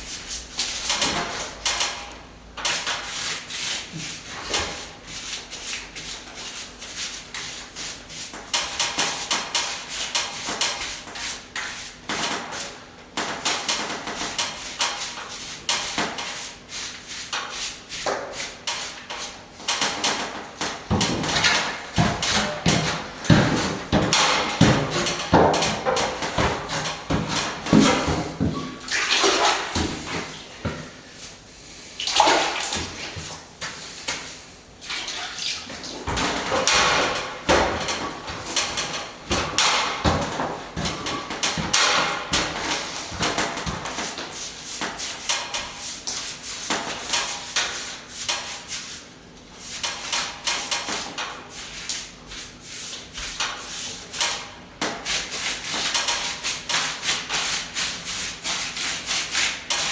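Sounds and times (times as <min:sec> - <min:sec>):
plastering tools scraping a wall: 0:00.0 - 0:31.5, 0:35.7 - 0:59.9.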